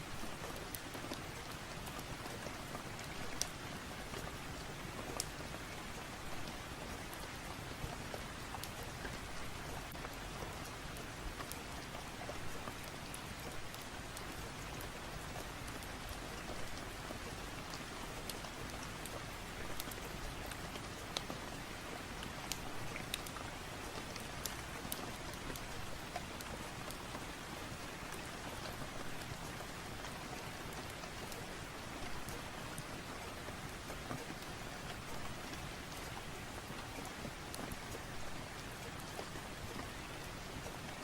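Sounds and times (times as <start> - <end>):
rain falling: 0.0 - 41.0.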